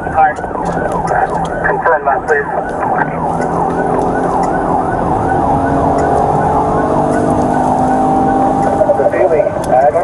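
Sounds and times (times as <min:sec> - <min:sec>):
police siren yelping: 0:00.0 - 0:10.0.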